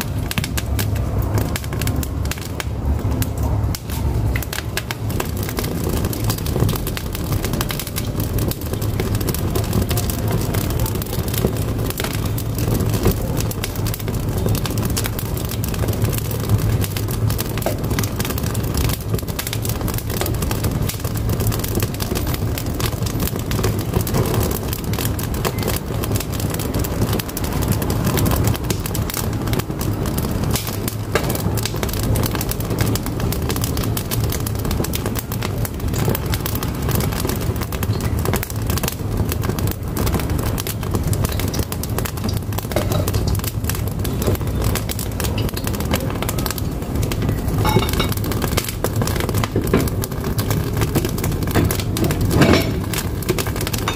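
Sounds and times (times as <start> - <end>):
firewood crackling and popping: 0.0 - 53.9
low rumble of fire: 0.0 - 53.9.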